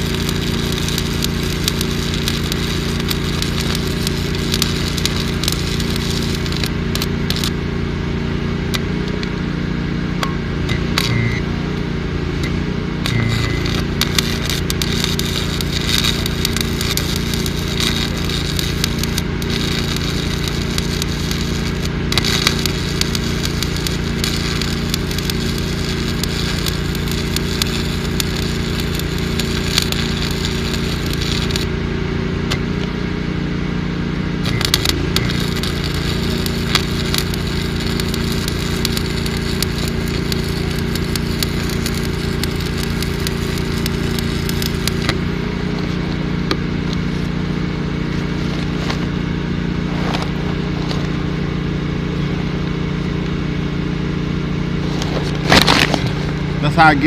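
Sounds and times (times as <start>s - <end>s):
welding arc crackling: 0.0s - 9.6s, 10.2s - 33.2s, 34.0s - 57.0s
engine humming: 0.0s - 57.0s.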